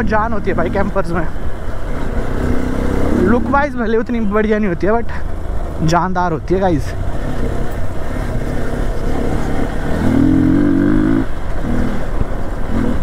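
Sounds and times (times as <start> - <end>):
motorcycle engine running: 0.0 - 4.4, 6.9 - 13.0
wind and road noise: 0.0 - 13.0.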